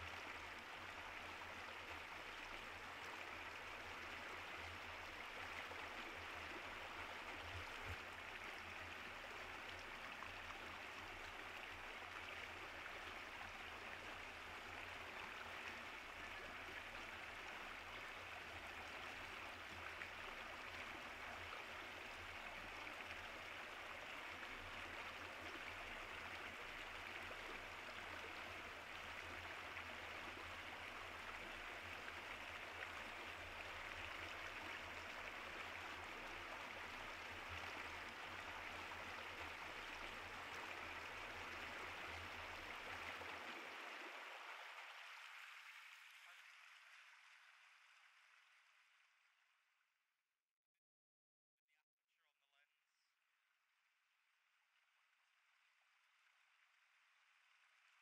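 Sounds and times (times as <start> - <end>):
running water: 0.0 - 48.1.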